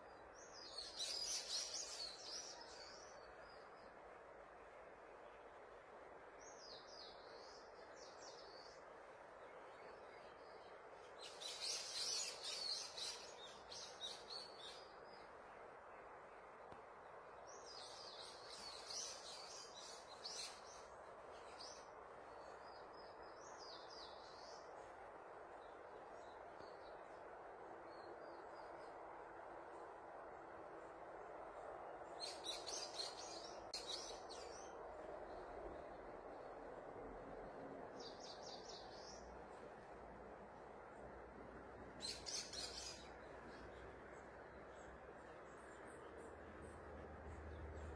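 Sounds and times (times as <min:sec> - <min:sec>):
faint background hiss: 0:00.0 - 0:47.9
songbirds chirping: 0:00.0 - 0:47.9.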